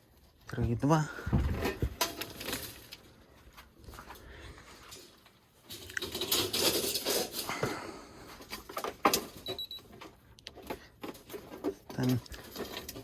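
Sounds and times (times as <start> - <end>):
rabbit scrabbling and rustling: 0.0 - 7.7, 8.3 - 13.0
scraping and pattering: 0.0 - 13.0.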